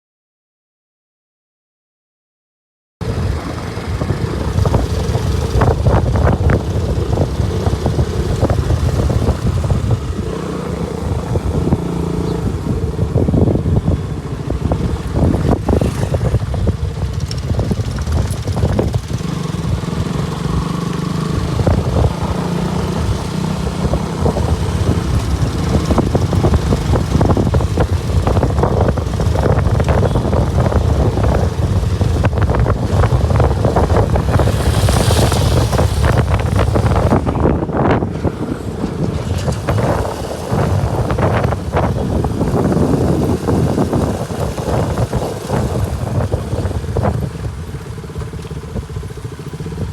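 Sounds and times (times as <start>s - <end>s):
motorcycle engine running: 3.0s - 49.9s
wind rushing on microphone: 3.0s - 49.9s.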